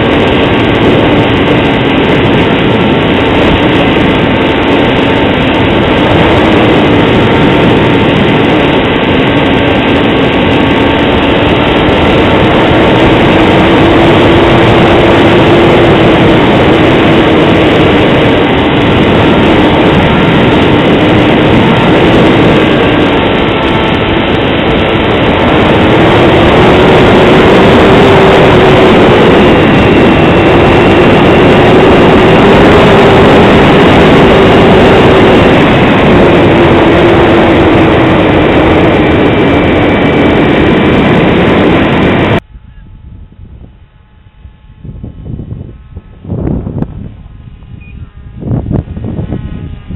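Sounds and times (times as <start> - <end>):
model plane motor and propeller: 0.0 - 42.9
heavy wind rush: 0.0 - 49.9.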